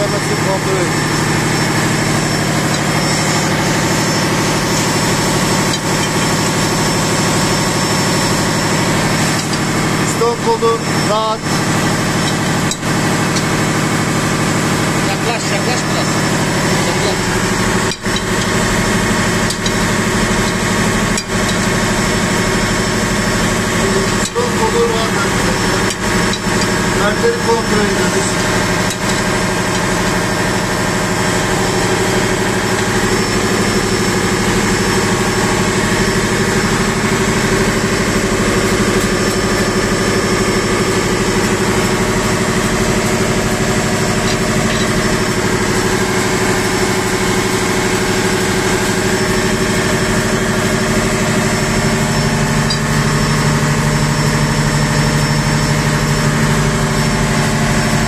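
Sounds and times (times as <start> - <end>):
deep hum: 0.0 - 58.0
engine-room machinery drone: 0.0 - 58.0.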